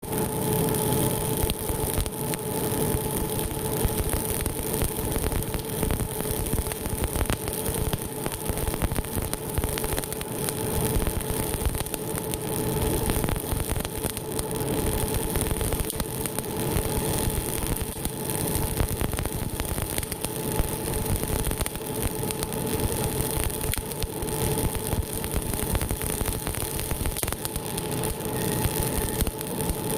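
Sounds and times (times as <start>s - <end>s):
sharp crackles: 0.0s - 29.9s.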